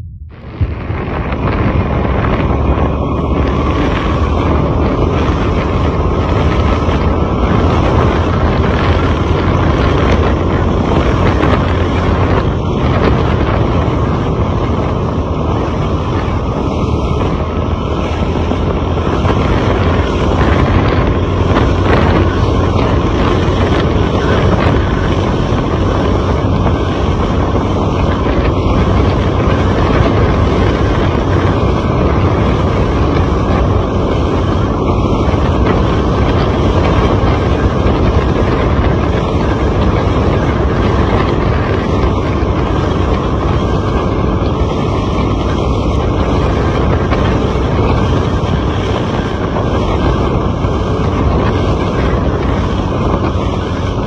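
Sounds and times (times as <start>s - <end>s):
road noise: 0.0s - 54.0s
truck engine rumble: 0.0s - 54.0s
wind buffeting microphone: 0.0s - 54.0s.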